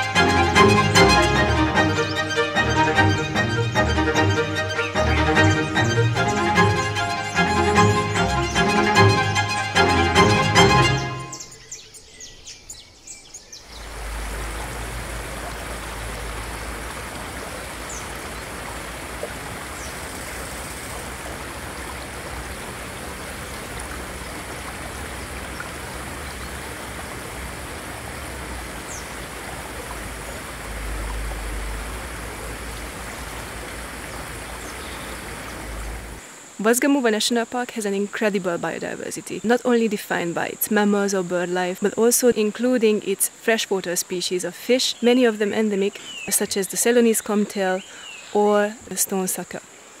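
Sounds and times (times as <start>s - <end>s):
stream flowing water: 0.0s - 11.7s, 13.0s - 50.0s.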